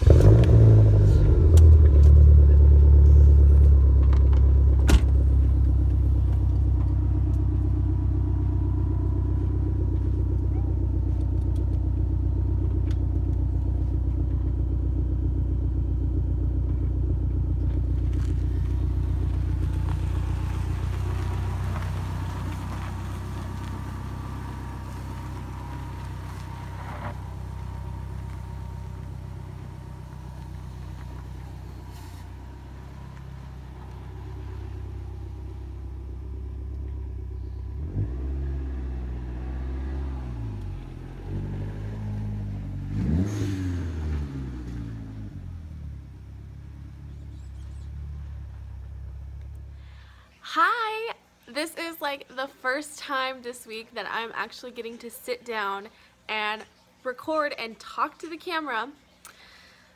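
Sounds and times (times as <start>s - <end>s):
car engine running and revving: 0.0s - 50.0s.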